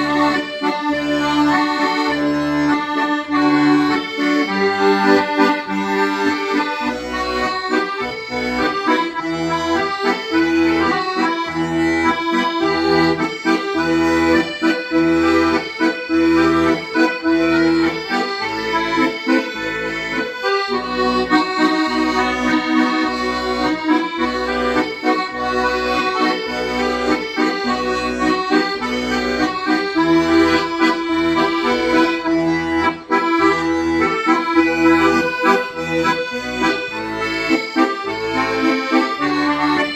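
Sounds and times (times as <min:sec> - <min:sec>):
accordion slow melody: 0:00.0 - 0:39.9.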